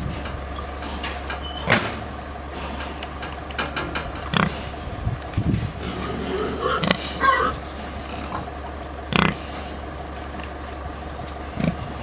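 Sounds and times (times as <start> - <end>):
pigs shuffling and grunting: 0.0 - 12.0
steady low hum: 0.0 - 12.0.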